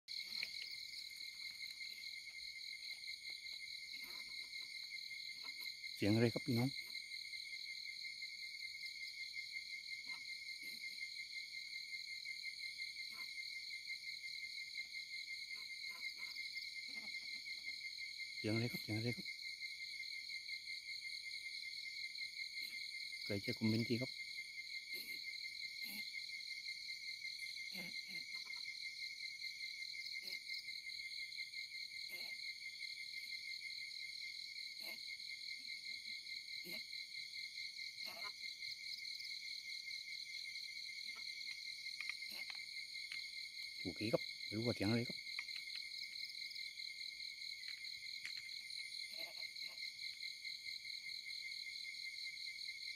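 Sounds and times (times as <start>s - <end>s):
high-pitched insect trill: 0.1s - 52.9s.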